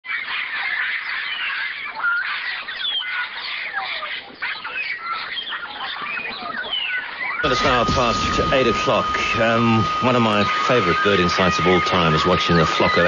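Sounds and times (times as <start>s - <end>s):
parrots whistling and squawking: 0.1s - 13.0s.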